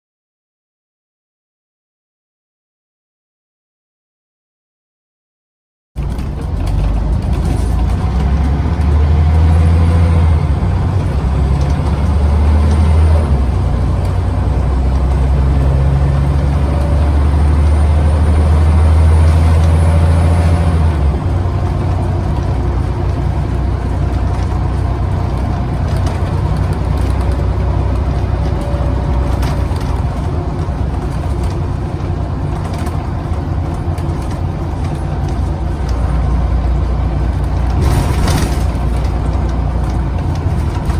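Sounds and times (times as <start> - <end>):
bus engine drone: 6.0 - 40.9.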